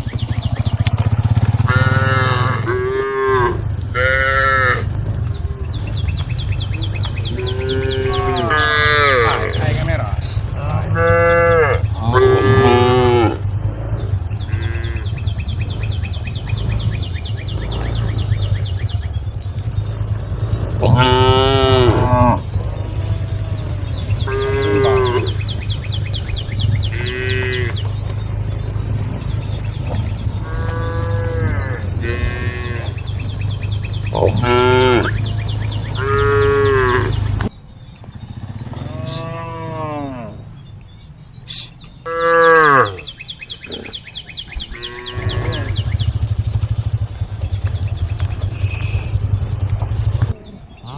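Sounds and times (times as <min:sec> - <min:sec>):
low rumble: 0:00.1 - 0:41.4, 0:44.0 - 0:50.9
cows mooing: 0:00.9 - 0:18.6, 0:19.4 - 0:37.5, 0:38.5 - 0:40.7, 0:41.5 - 0:44.0, 0:44.6 - 0:50.9.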